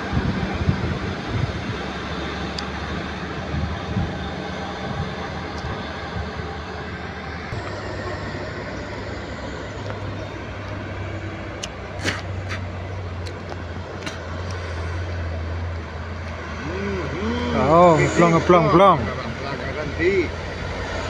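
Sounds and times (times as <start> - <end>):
diesel truck engines droning: 0.0 - 21.0
road noise: 0.0 - 21.0.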